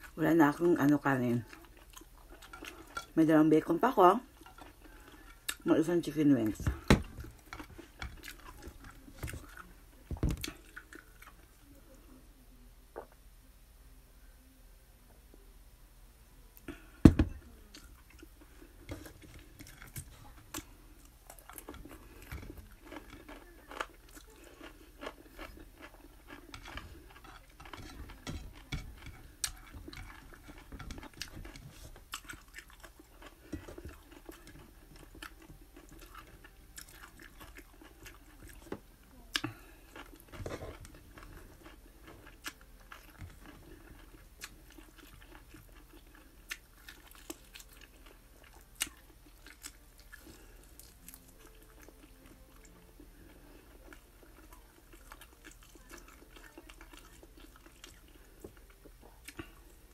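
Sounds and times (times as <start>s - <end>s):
chewing and crunching food: 0.0s - 12.0s, 16.6s - 59.9s.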